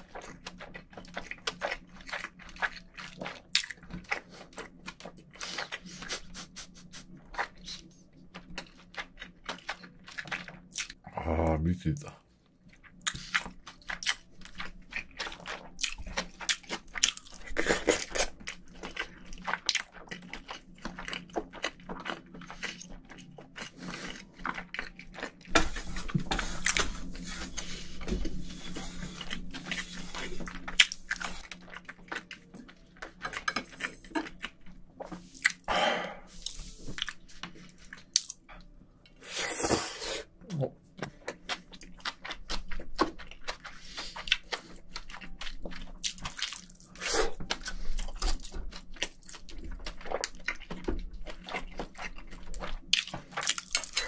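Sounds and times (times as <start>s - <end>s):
chewing and crunching noodles: 0.0s - 11.5s, 12.2s - 54.0s.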